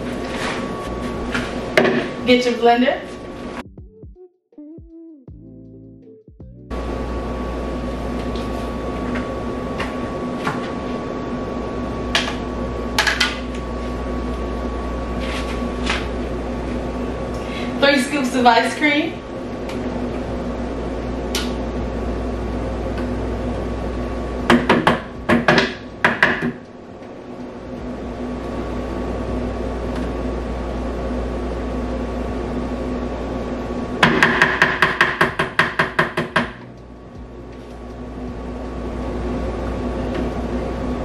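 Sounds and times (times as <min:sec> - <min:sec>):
steady hum: 0:00.0 - 0:03.8, 0:05.3 - 0:41.0.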